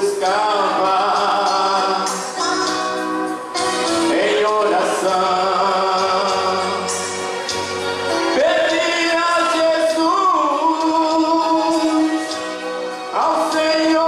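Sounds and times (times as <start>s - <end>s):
man singing into a microphone: 0.0s - 2.8s, 3.6s - 7.3s, 8.1s - 14.0s
instrumental backing: 0.0s - 14.0s.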